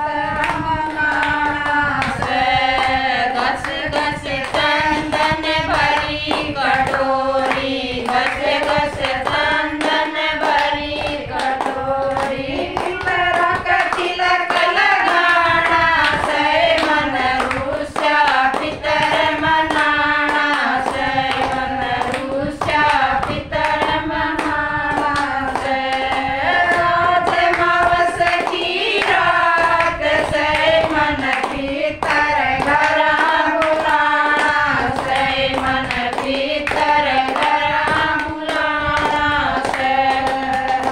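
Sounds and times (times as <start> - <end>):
hand-clapping: 0.0 - 40.9
women singing in unison: 0.0 - 40.9.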